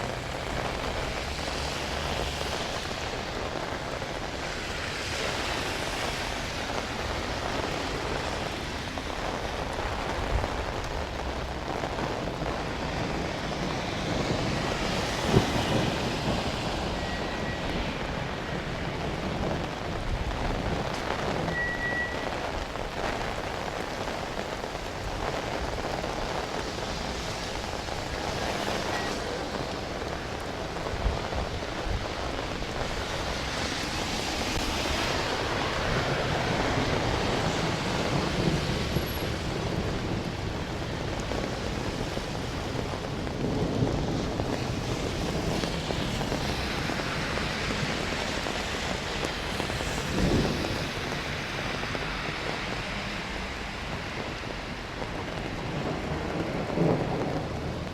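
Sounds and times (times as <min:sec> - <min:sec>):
steady rain falling: 0:00.0 - 0:57.9
thunder rumbling: 0:00.0 - 0:57.9.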